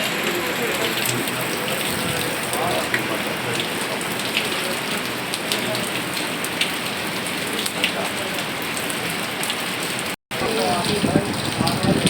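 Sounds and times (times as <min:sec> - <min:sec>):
heavy rain pouring: 0:00.0 - 0:12.0
rain drops spattering: 0:00.0 - 0:12.0.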